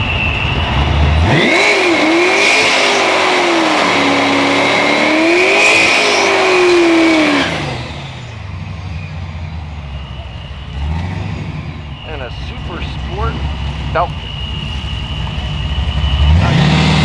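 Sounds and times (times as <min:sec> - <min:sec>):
car engine accelerating hard: 0:00.0 - 0:17.0
high whine: 0:00.0 - 0:17.0.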